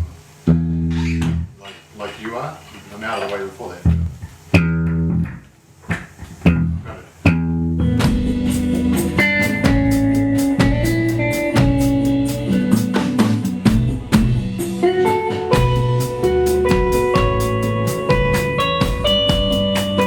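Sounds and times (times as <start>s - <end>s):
bass guitar: 0.0s - 1.7s, 3.8s - 20.0s
drum kit beat: 3.9s - 20.0s
electric guitar: 3.9s - 20.0s.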